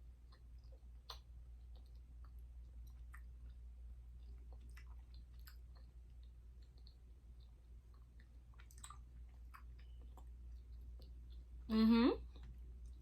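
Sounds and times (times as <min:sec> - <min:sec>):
chewing caramel: 0:00.0 - 0:13.0
steady low hum: 0:00.0 - 0:13.0.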